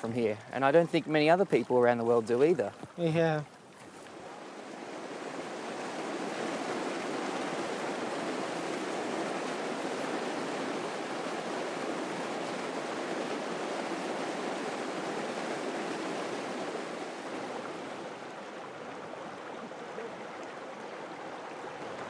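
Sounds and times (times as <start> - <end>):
water rushing down channel: 0.0 - 22.0.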